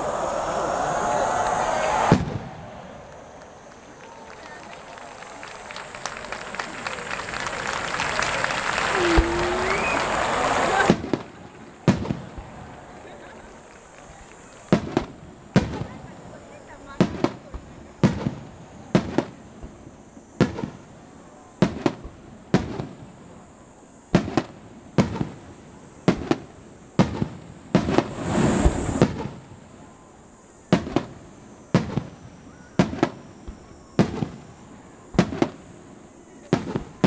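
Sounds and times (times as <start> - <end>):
firework crackling: 0.0 - 23.5, 24.1 - 37.0.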